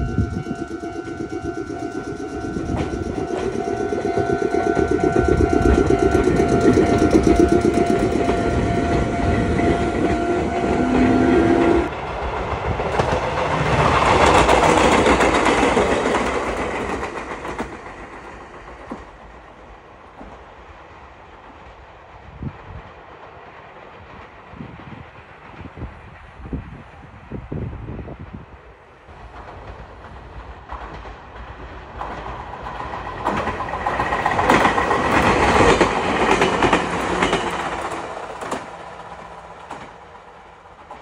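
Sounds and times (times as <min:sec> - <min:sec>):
electric train passing: 0:00.0 - 0:41.0
steady train tones: 0:00.0 - 0:41.0.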